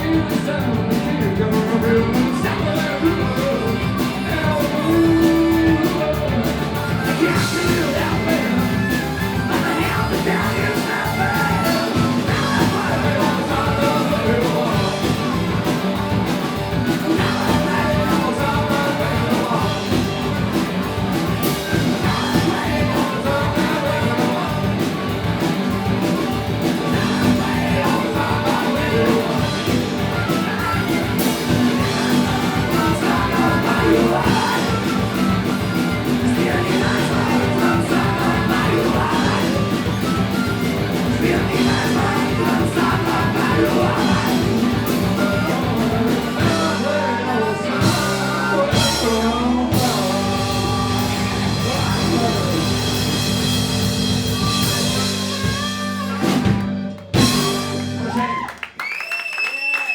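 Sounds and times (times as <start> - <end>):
person singing: 0.0 - 58.4
live rock band playing: 0.0 - 58.7.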